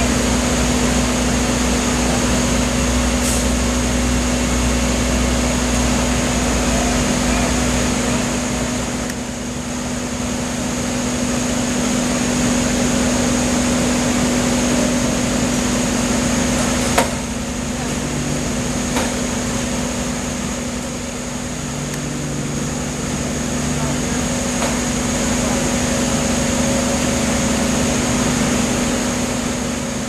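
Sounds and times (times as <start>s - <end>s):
wood chipper running: 0.0s - 30.0s.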